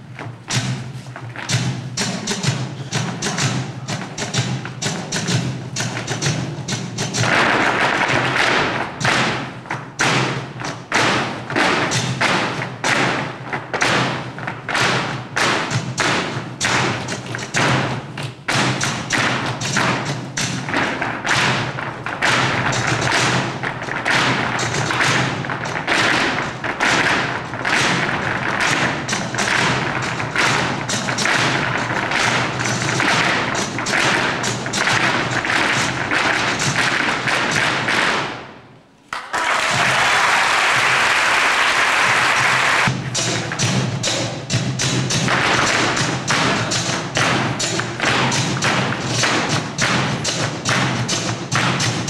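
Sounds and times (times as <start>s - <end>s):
flamenco music: 0.0s - 52.0s.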